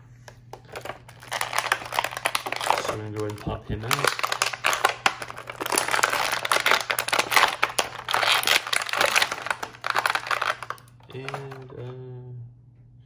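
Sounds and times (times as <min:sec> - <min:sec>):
plastic packaging crinkling: 0:00.5 - 0:11.9.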